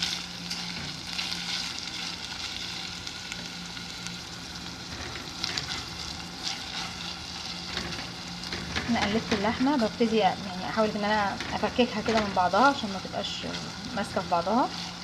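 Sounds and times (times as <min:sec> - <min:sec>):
meat frying in a pan: 0:00.0 - 0:15.0.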